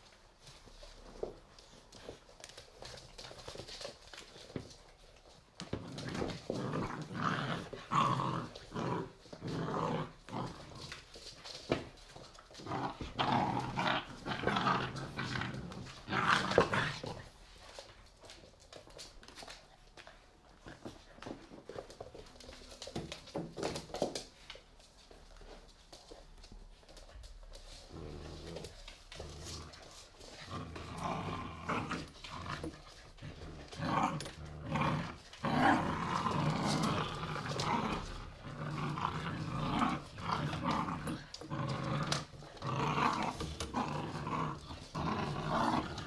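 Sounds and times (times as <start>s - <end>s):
puppies growling: 0.5s - 19.6s, 26.9s - 46.0s.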